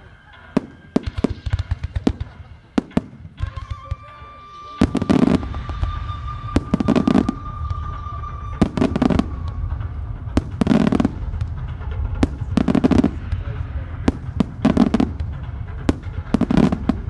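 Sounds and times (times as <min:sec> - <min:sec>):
fireworks bangs and crackling: 0:00.0 - 0:17.0
low rumble of fireworks: 0:00.0 - 0:17.0.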